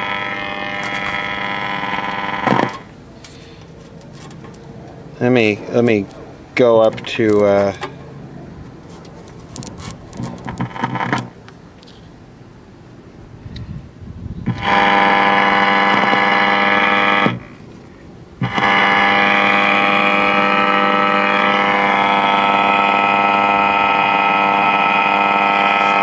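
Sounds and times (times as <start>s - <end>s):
radio speaker buzzing hum: 0.0s - 12.2s, 13.3s - 26.0s.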